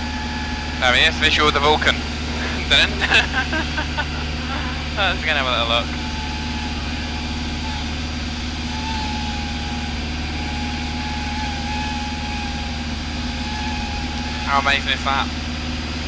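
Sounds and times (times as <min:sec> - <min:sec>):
faint wavering high tone: 0:00.0 - 0:16.0
light aircraft engine droning: 0:00.0 - 0:16.0.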